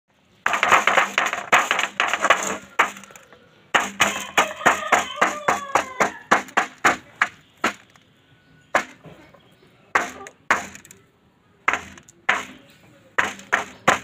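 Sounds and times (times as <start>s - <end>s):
beak pecking metal basin: 0.4s - 8.1s, 8.7s - 11.0s, 11.7s - 14.0s.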